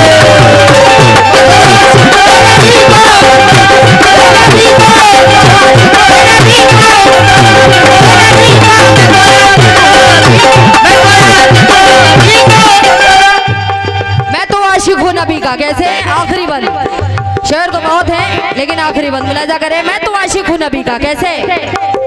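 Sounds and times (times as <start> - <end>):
hand drums beating: 0.0 - 22.0
harmonium holding notes: 0.0 - 22.0.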